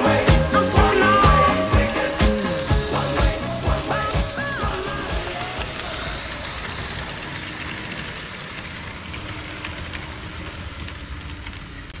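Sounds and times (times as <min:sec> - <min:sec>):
model train rattling on track: 0:00.0 - 0:12.0
wheels clicking on rails: 0:00.0 - 0:12.0.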